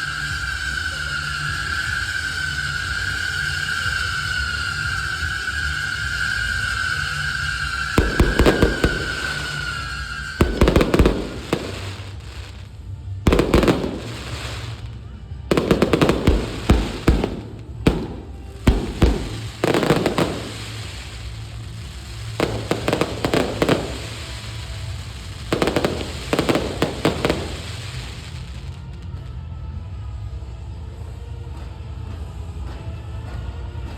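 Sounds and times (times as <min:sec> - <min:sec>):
fireworks bursting and crackling: 0:00.0 - 0:29.3.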